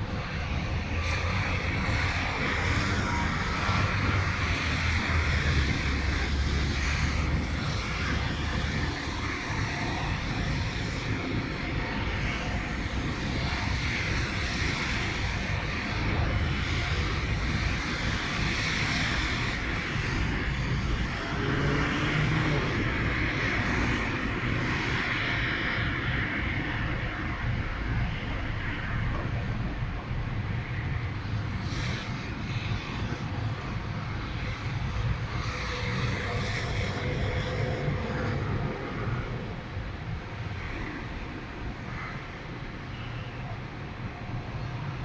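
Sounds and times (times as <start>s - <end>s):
blizzard wind blowing: 0.0s - 45.0s
wind rumbling on microphone: 0.0s - 45.0s.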